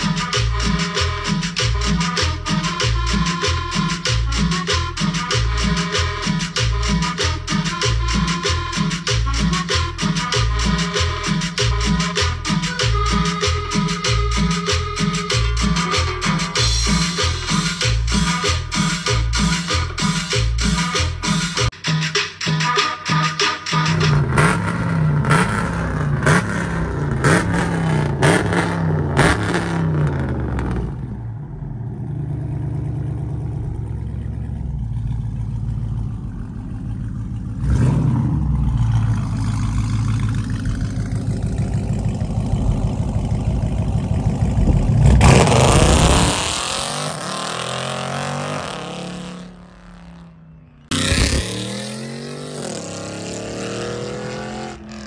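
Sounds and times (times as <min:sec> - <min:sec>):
truck engines revving: 0:00.0 - 0:21.7, 0:23.7 - 0:55.0.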